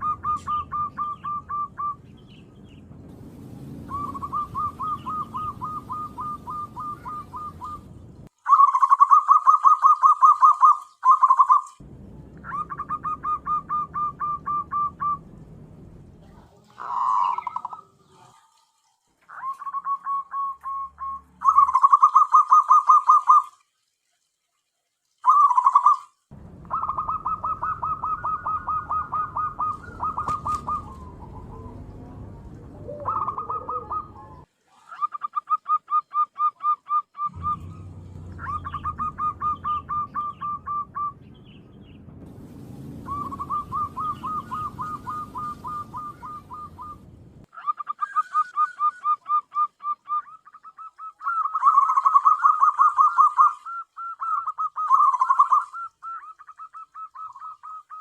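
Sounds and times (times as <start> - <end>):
doves cooing: 0.0 - 2.8, 3.4 - 11.7, 12.4 - 15.4, 16.5 - 23.5, 26.6 - 41.5, 43.0 - 58.0.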